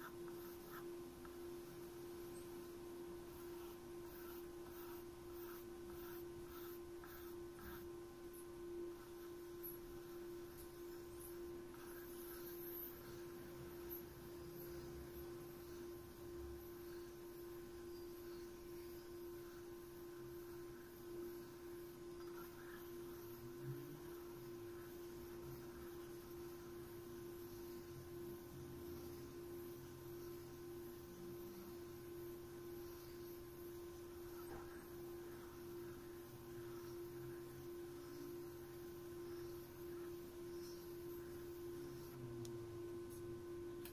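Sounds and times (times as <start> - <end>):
faint steady hum: 0.0 - 43.9
low background hiss: 0.0 - 43.9.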